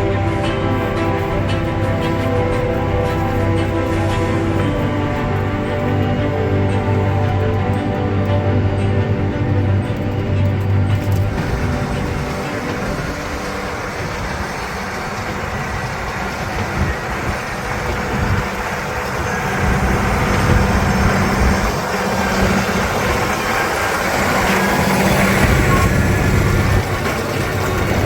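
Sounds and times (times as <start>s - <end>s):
tractor and baling machinery running: 0.0s - 28.0s.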